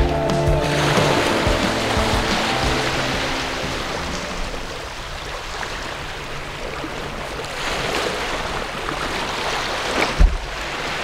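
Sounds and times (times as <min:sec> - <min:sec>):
sea waves washing against rocks: 0:00.0 - 0:11.0.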